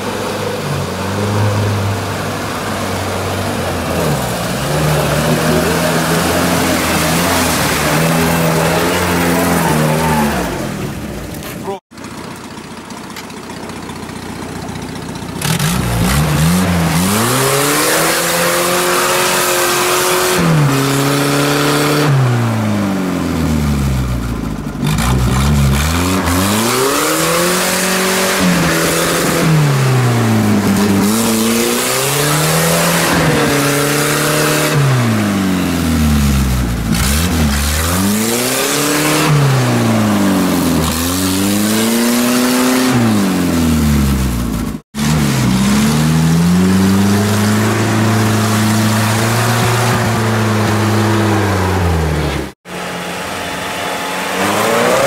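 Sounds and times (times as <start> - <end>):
off-road engine revving: 0.0 - 12.2, 12.9 - 55.0
mud and water splashing: 0.0 - 20.3, 24.8 - 52.5.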